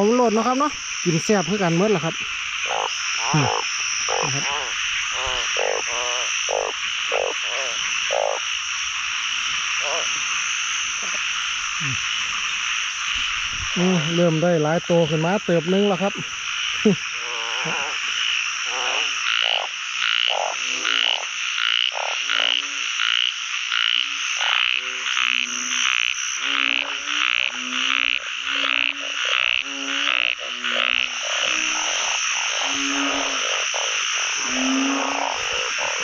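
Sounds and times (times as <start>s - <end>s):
high-pitched frog trill: 0.0s - 8.5s, 13.7s - 36.0s
frogs croaking: 0.0s - 36.0s.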